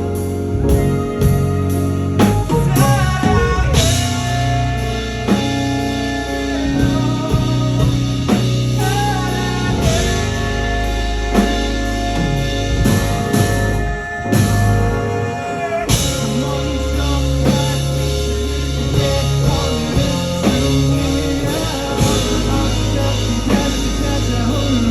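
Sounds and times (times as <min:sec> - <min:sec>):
bass guitar: 0:00.0 - 0:24.9
bending lead guitar line: 0:00.0 - 0:24.9
drum kit beat: 0:00.0 - 0:24.9
guitar: 0:00.0 - 0:24.9.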